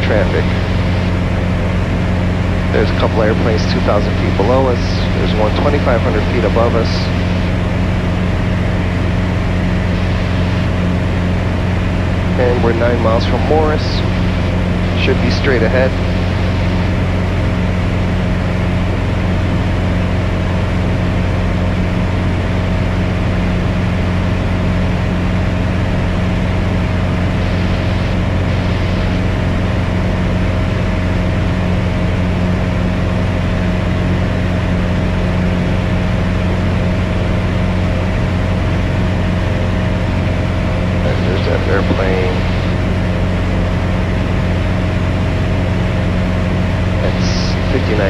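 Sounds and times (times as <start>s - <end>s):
aircraft engine drone in cabin: 0.0s - 48.0s.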